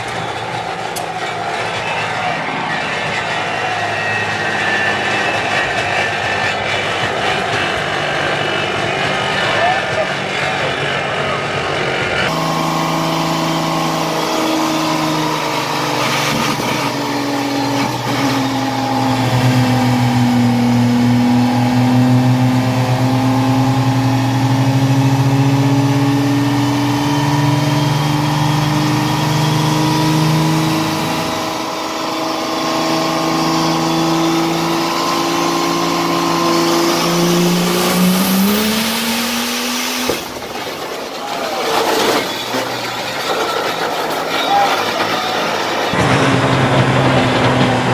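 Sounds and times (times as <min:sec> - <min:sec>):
diesel truck engine revving: 0:00.0 - 0:47.9.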